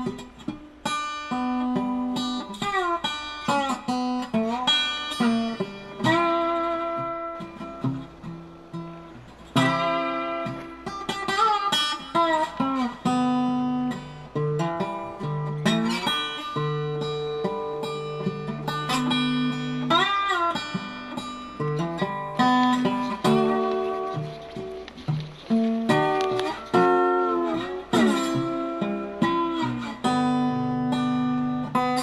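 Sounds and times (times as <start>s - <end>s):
plucked acoustic guitar: 0.0s - 32.0s.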